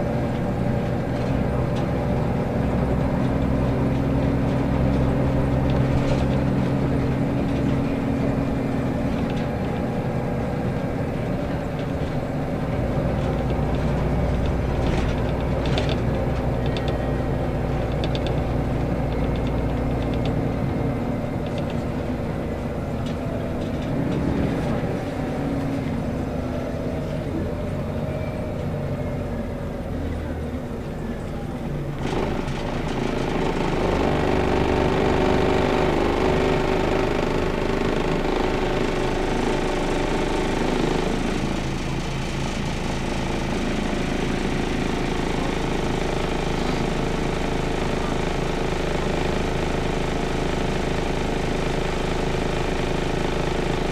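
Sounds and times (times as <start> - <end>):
tyre and road noise: 0.0 - 50.3
bus engine running: 0.0 - 53.9.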